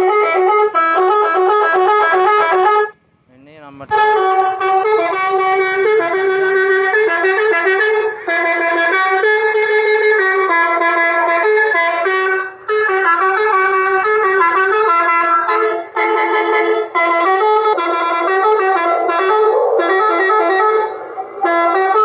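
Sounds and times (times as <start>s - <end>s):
electronic bus horn melody: 0.0s - 3.1s, 3.9s - 22.0s.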